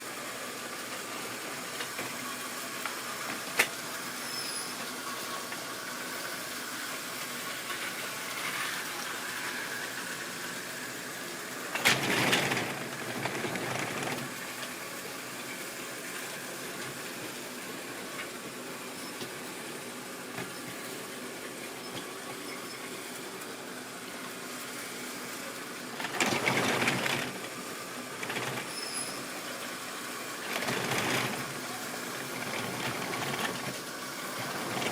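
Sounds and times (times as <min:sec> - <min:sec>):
model train running on track: 0:00.0 - 0:34.9.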